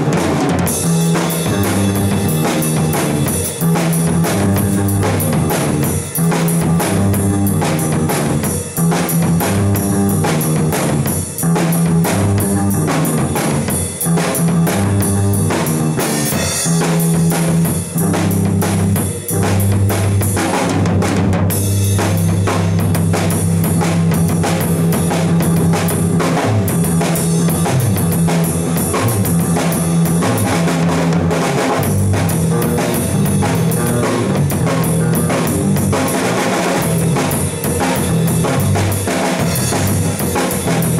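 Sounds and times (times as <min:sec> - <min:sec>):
bass line: 0:00.0 - 0:40.9
drum kit beat: 0:00.0 - 0:40.9.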